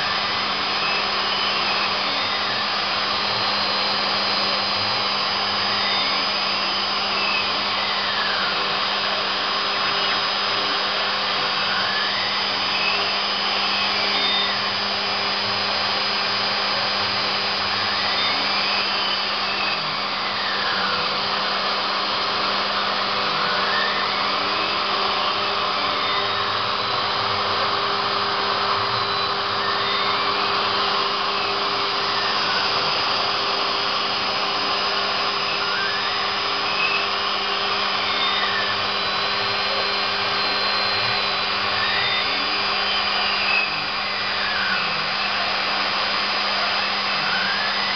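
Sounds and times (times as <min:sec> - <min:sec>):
machine whine rising and falling: 0:00.0 - 0:47.9
router spindle motor running: 0:00.0 - 0:47.9.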